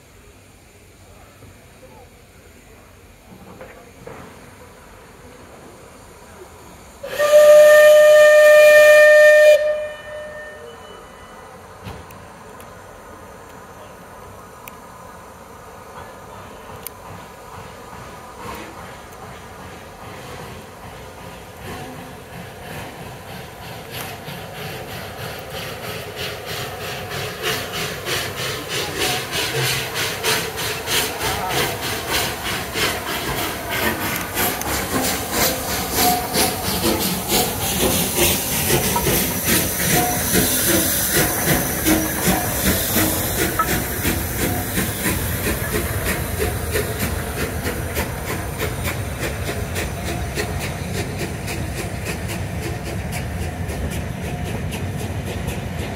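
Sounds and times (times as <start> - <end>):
steam hissing: 0.0 - 55.9
steam locomotive exhaust beating: 2.6 - 55.9.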